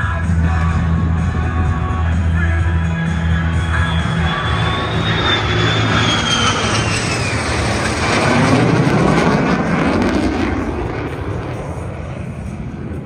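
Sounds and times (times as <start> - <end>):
high jet whine: 0.0 - 13.0
jet engines roaring overhead: 0.0 - 13.0.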